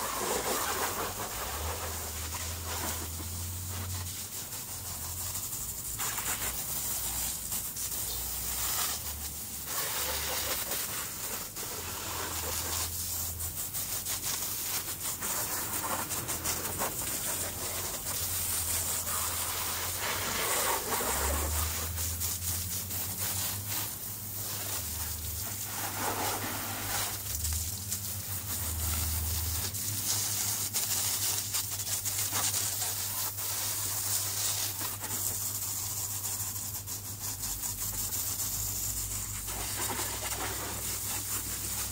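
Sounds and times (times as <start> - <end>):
hose water spraying and splashing: 0.0 - 41.9.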